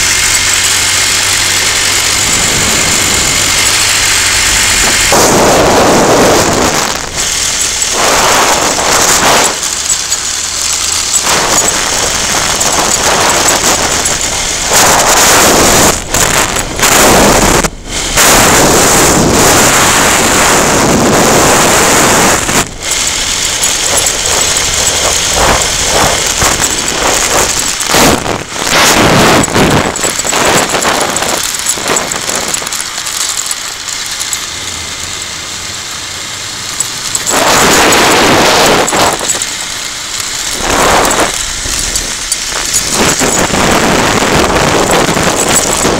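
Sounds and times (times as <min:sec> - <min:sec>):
wind rushing over microphone: 0:00.0 - 0:35.0, 0:36.8 - 0:45.9.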